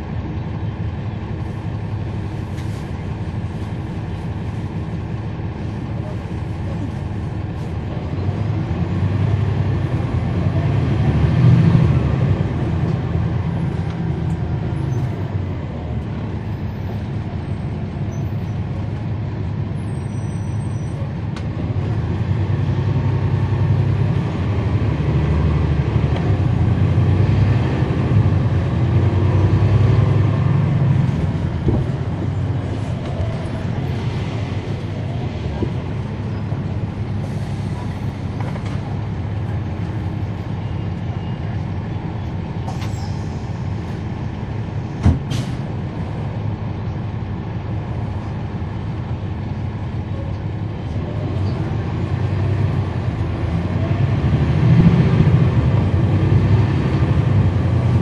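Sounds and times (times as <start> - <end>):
bus diesel engine driving: 0.0 - 58.0.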